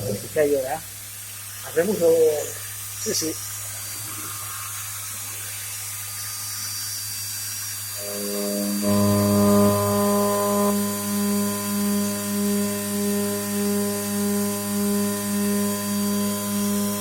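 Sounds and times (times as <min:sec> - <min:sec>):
machine motor hum: 0:01.7 - 0:17.0.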